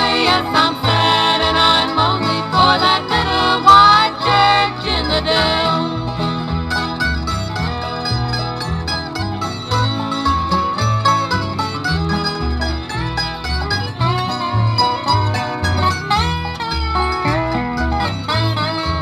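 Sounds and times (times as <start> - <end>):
banjo picking: 0.0 - 19.0
bass line: 0.0 - 19.0
guitar picking: 0.0 - 19.0.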